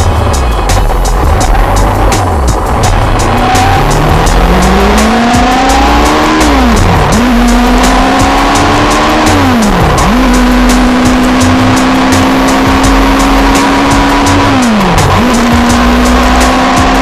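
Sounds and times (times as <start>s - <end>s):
motorcycle engine accelerating hard: 0.0s - 17.0s.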